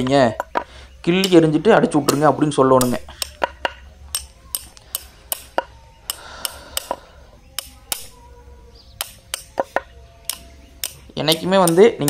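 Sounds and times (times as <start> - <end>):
hammer tapping nails into horseshoe: 0.4 - 8.1, 9.0 - 12.0.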